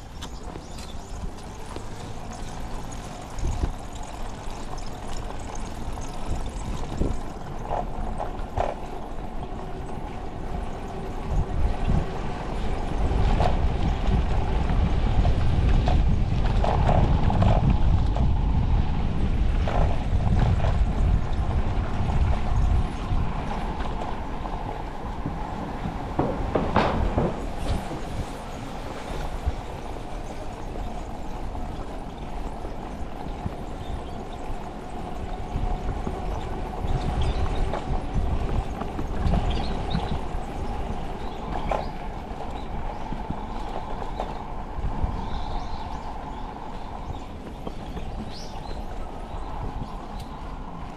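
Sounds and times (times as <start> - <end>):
bicycle clicks and rattles: 0.0 - 50.9
wind rumble on microphone: 0.0 - 50.9.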